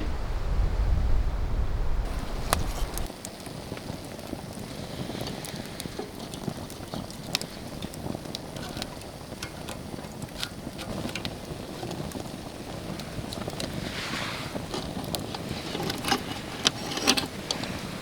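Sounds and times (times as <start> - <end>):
campfire crackling and popping: 2.0 - 18.0.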